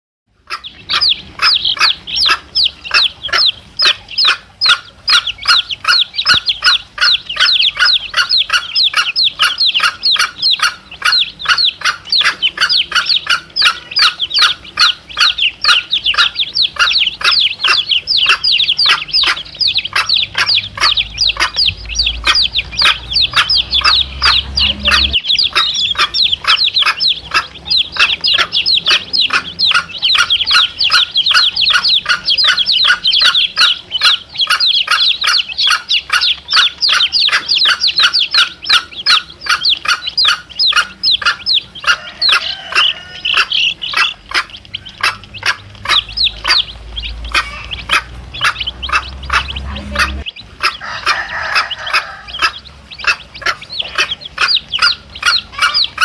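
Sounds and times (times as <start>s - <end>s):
chicks peeping: 0.3s - 56.0s.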